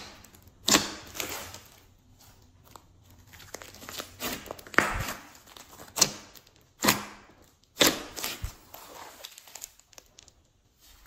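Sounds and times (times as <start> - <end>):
sticky slime crackling: 0.0 - 11.0
wet slime squelches: 0.0 - 11.0.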